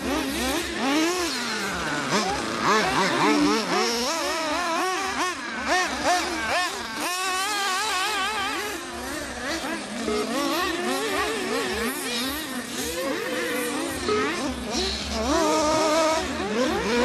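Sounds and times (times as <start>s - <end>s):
model buggy engines revving: 0.0s - 17.0s.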